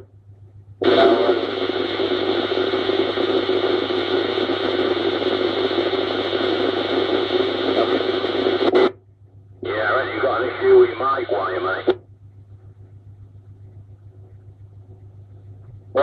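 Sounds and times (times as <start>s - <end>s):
radio buzzing hiss: 0.8s - 9.0s, 9.6s - 16.0s.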